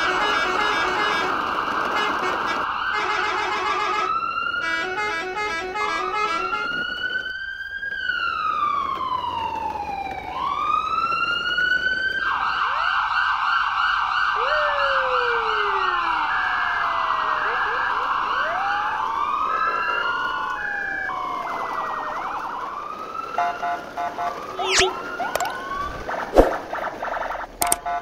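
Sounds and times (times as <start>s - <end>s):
fast warbling siren: 0.0s - 12.9s, 13.5s - 28.0s
slow wailing siren: 0.0s - 28.0s.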